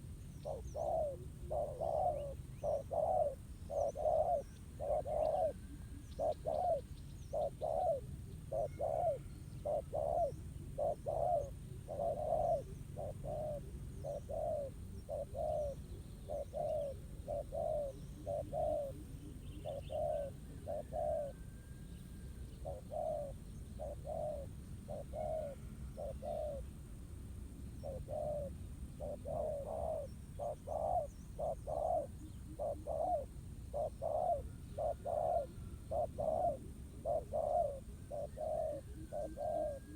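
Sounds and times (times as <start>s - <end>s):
small birds chirping: 0.0s - 21.4s, 22.0s - 26.8s, 27.7s - 39.9s
doves cooing: 0.0s - 26.8s, 27.7s - 39.9s.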